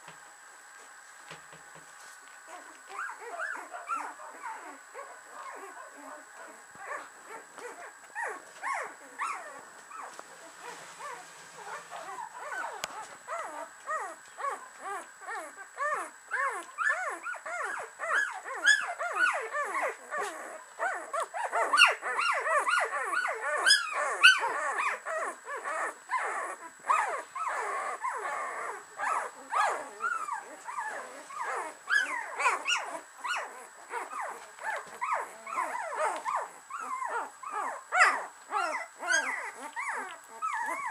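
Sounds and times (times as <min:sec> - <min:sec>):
puppies whimpering and squeaking: 0:02.5 - 0:40.9.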